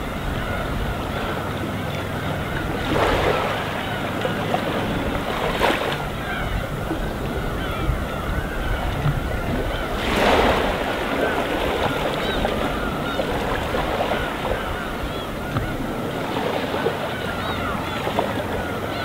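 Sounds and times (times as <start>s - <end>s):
gentle sea waves washing in: 0.0s - 19.0s.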